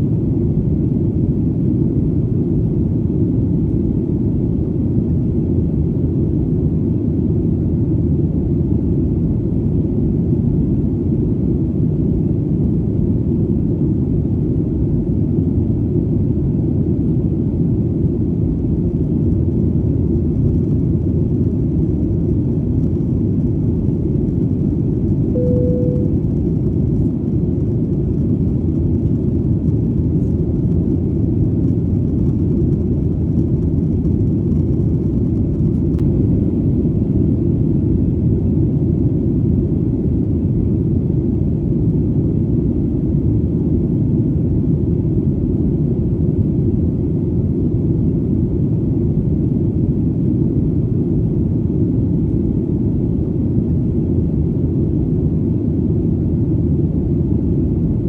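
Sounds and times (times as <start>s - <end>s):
airplane engine rumble: 0.0s - 58.0s.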